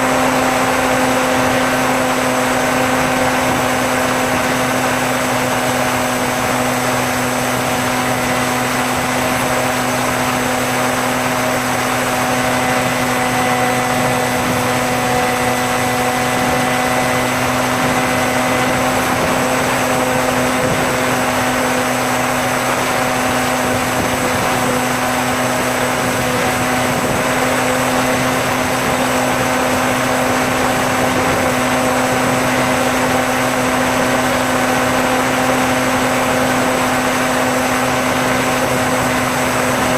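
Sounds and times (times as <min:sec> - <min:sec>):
electric motor and propeller whine: 0:00.0 - 0:39.9
wind noise: 0:00.0 - 0:39.9.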